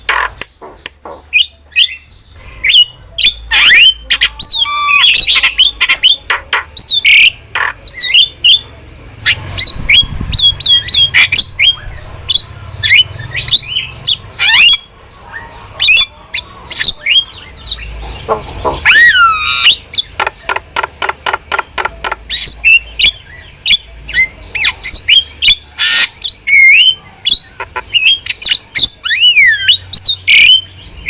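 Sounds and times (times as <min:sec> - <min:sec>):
starling chattering: 0:00.0 - 0:31.0.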